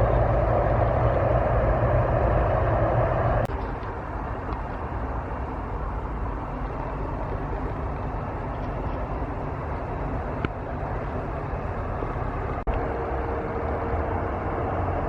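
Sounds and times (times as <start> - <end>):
heavy truck engine running: 0.0 - 15.0
road traffic rumble: 0.0 - 15.0.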